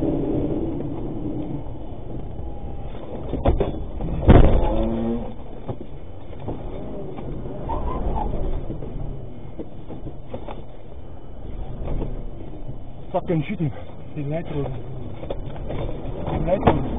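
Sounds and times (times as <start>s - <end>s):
vehicle running: 0.0s - 16.9s.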